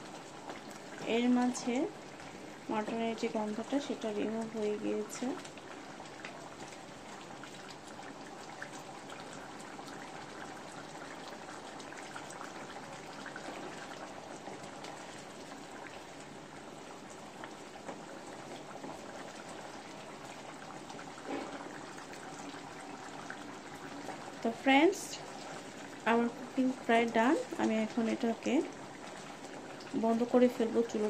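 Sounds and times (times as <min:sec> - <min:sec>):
curry bubbling and popping: 0:00.0 - 0:31.0.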